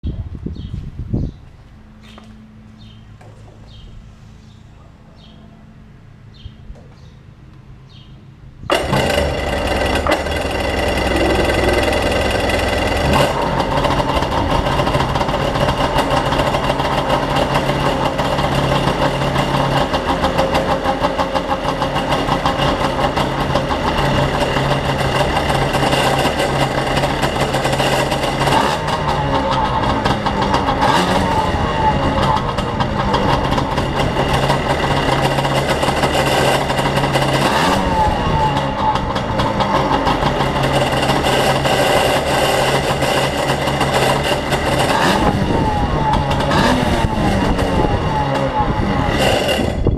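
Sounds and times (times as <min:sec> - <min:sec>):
jet ski engine idling: 0:08.7 - 0:49.9.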